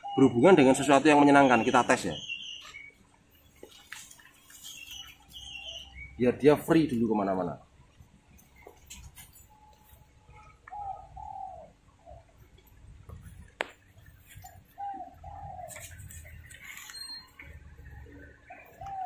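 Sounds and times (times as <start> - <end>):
bird calls: 0.0 - 7.1, 8.3 - 19.0.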